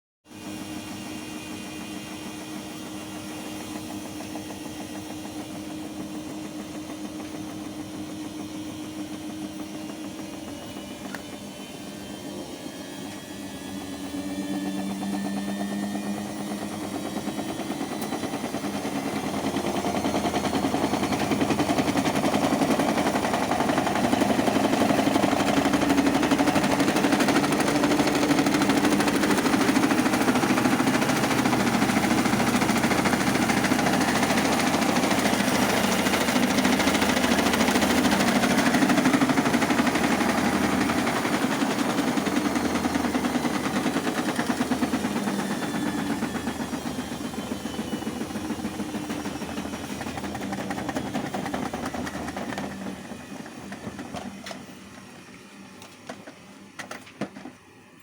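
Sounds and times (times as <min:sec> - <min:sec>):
washing machine motor knocking: 0:01.2 - 0:11.7, 0:13.2 - 0:55.0.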